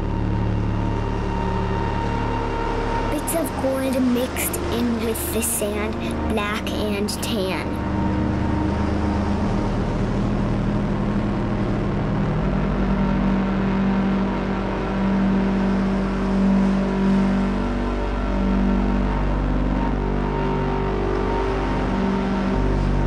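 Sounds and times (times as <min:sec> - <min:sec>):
low drone music: 0:00.0 - 0:23.0.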